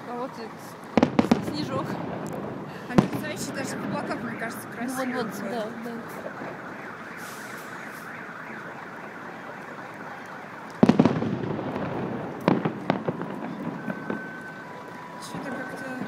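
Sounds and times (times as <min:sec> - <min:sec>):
fireworks crackling: 0:00.1 - 0:16.0
fireworks bangs: 0:00.9 - 0:16.0.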